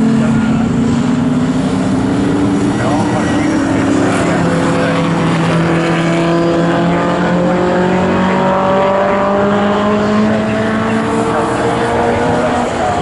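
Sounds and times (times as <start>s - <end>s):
racing cars accelerating: 0.0s - 13.0s.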